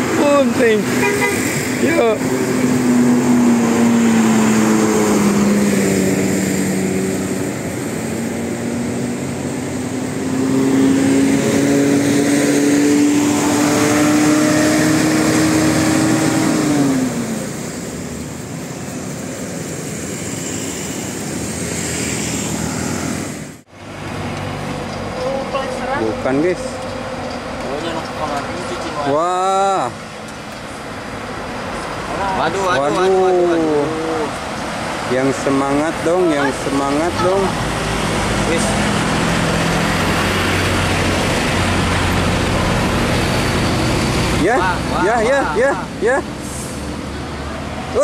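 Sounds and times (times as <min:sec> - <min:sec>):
bus engine drone: 0:00.0 - 0:48.0.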